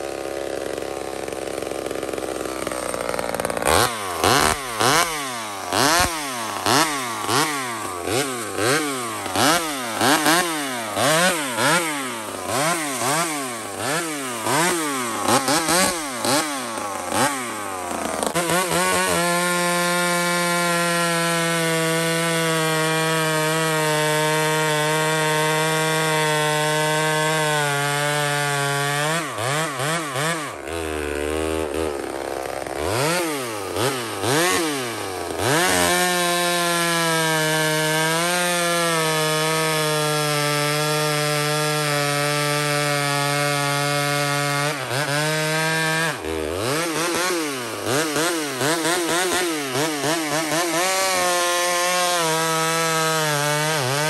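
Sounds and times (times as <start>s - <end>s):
chainsaw cutting log: 0.0s - 54.0s
chainsaw engine revving: 0.0s - 54.0s.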